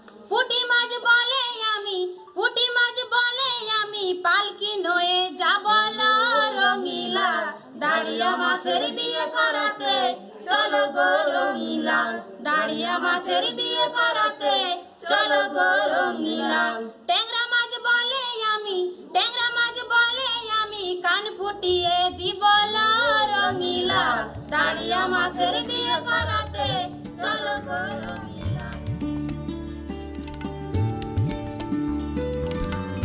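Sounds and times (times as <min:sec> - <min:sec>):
woman singing unaccompanied: 0:00.3 - 0:28.9.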